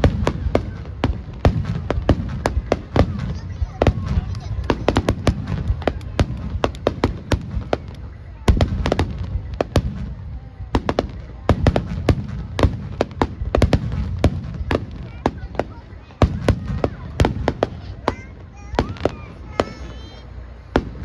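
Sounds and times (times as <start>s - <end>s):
fireworks cracking: 0.0s - 21.0s
low rumble of fireworks booms: 0.0s - 21.0s.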